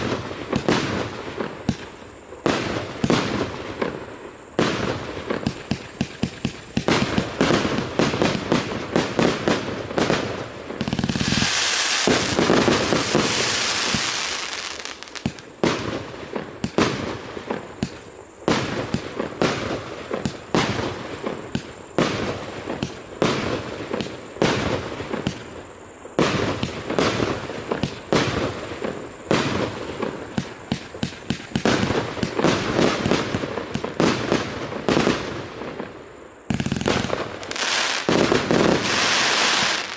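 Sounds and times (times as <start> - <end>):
fireworks crackling: 0.0 - 39.9
fireworks launches and bursts: 0.0 - 39.9.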